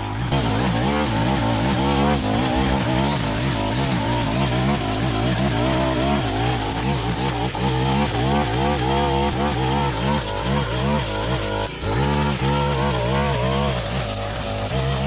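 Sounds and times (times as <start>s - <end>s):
line trimmer engine running: 0.0s - 15.0s.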